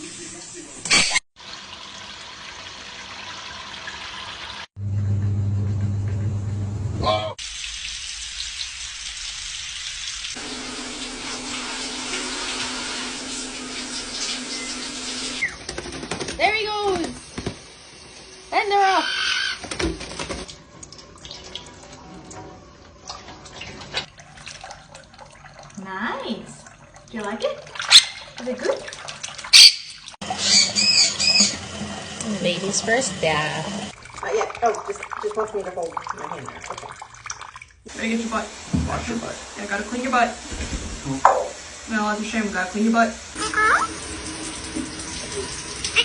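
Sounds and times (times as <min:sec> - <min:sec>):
water running and splashing: 0:07.4 - 0:46.0.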